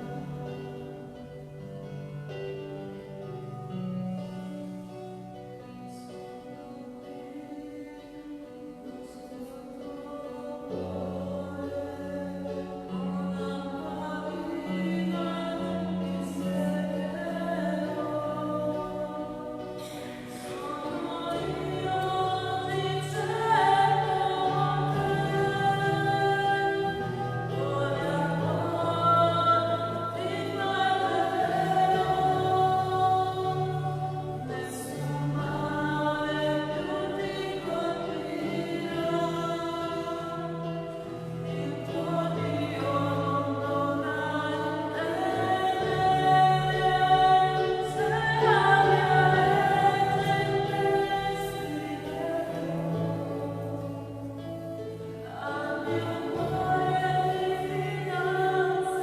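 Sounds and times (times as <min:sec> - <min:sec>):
choir singing long chords: 0:00.0 - 0:59.0.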